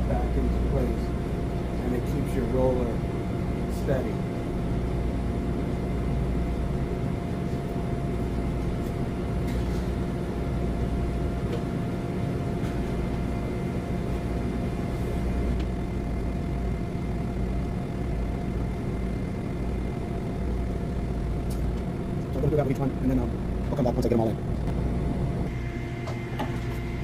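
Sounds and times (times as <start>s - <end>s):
low mechanical hum with tone: 0.0s - 27.0s.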